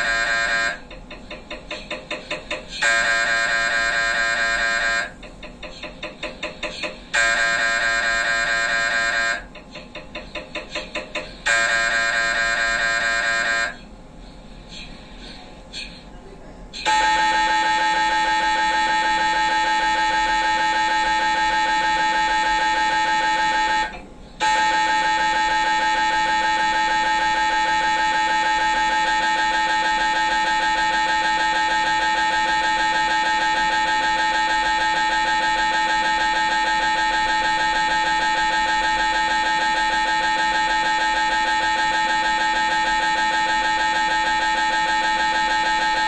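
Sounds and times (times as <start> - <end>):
mri scanner buzzing: 0.0 - 15.4, 16.8 - 46.0.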